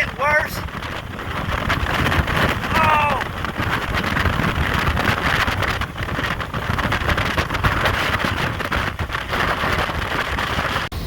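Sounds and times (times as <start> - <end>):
strong wind roaring: 0.0 - 11.0
wind buffeting microphone: 0.0 - 11.0.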